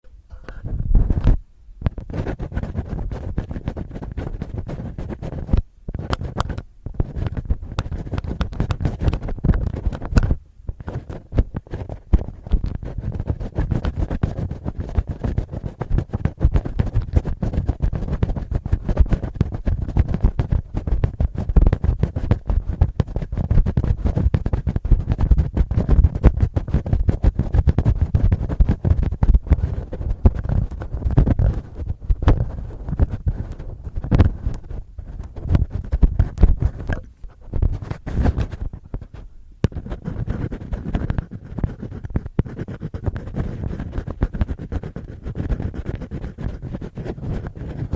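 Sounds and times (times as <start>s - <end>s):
fingernails scratching microphone: 0.3s - 47.9s.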